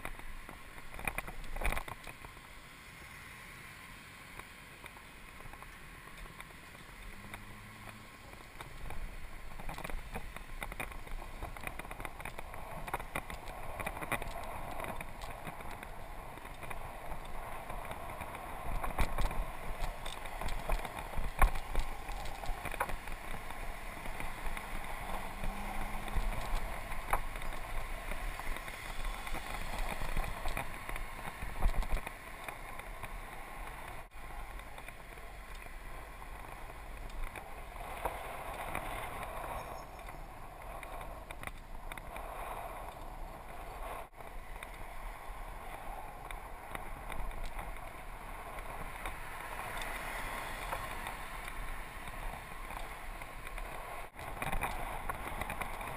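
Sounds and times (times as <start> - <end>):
bike rattling clicks and knocks: 0.0 - 2.4, 8.2 - 45.0, 45.6 - 55.9
tyres rumbling on pavement: 4.3 - 55.9.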